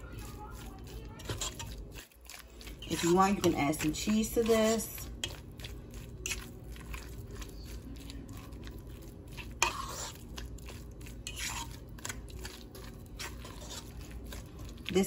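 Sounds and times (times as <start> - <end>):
fork mashing potatoes in a pot: 0.0 - 15.0.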